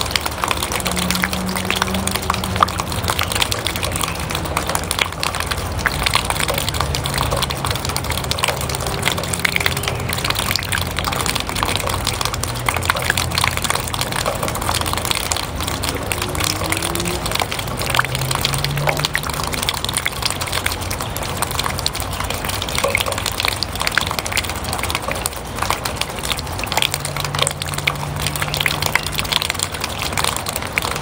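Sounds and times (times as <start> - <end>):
rain dripping off roof edge: 0.0 - 31.0.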